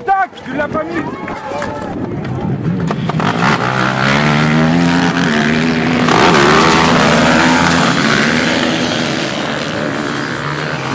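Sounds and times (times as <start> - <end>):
quad engines revving: 2.0 - 10.9.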